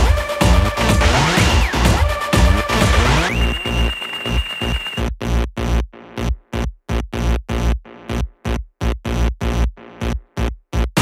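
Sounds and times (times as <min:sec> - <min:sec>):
bass-heavy electronic dance music: 0:00.0 - 0:11.0.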